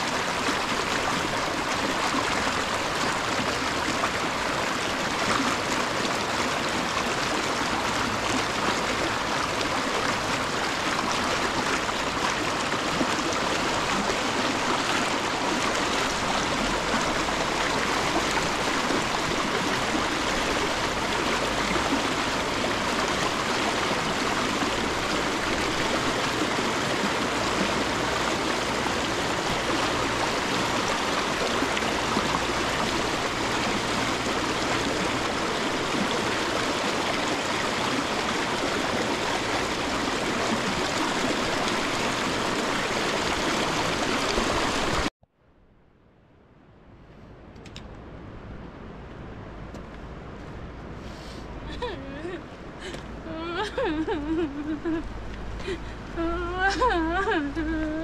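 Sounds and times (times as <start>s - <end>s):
stream water rushing: 0.0s - 45.1s, 50.0s - 58.0s.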